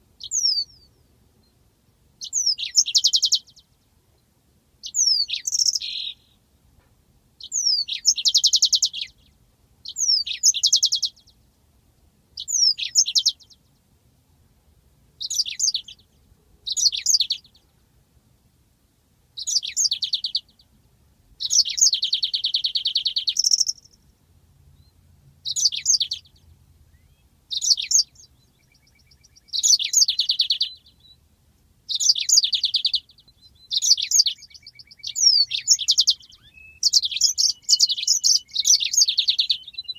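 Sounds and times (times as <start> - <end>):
canary singing trills: 0.2 - 1.6, 2.2 - 6.4, 7.4 - 11.4, 12.4 - 13.8, 15.2 - 17.7, 19.4 - 20.8, 21.4 - 31.2, 31.9 - 39.9.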